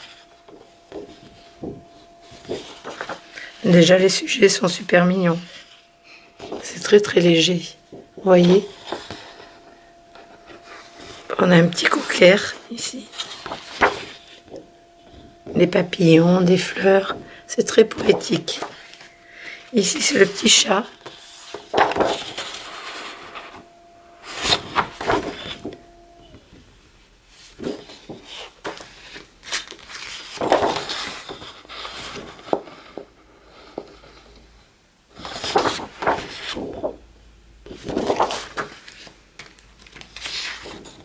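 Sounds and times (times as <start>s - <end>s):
paper sheets rustling and flapping: 0.0s - 25.9s, 27.3s - 34.4s, 35.1s - 41.0s.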